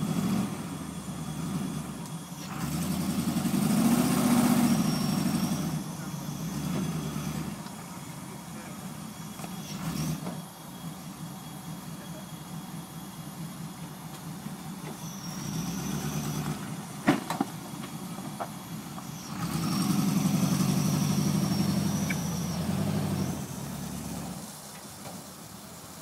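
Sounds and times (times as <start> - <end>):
off-road engine labouring: 0.0 - 26.0.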